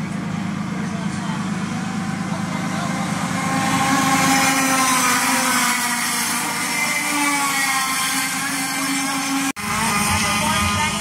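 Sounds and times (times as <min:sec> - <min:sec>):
go-kart engine at high revs: 0:00.0 - 0:11.0.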